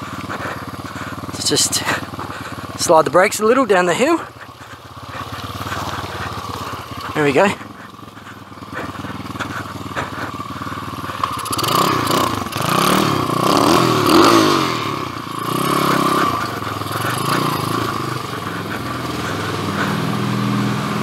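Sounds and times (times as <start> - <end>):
pit bike engine revving: 0.0 - 21.0.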